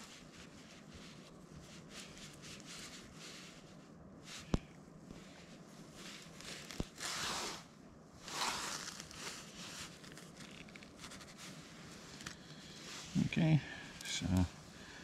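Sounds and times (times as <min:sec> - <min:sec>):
rustling handling noise: 0:00.0 - 0:15.0.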